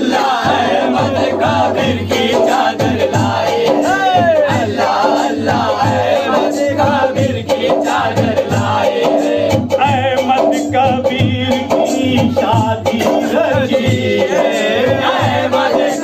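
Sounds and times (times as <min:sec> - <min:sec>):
hand drum beat: 0:00.0 - 0:16.0.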